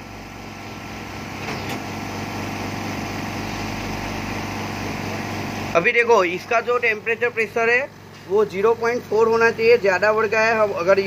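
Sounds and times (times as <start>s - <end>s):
laminator pump motor humming: 0.0s - 11.0s.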